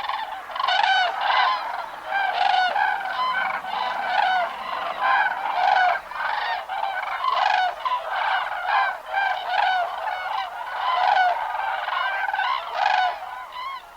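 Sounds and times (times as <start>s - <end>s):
cranes trumpeting calls: 0.0s - 13.9s.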